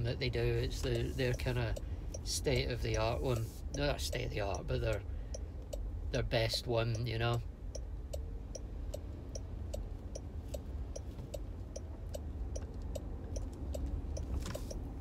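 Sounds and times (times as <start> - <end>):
road rumble in car cabin: 0.0 - 15.0
turn signal ticking: 0.0 - 15.0.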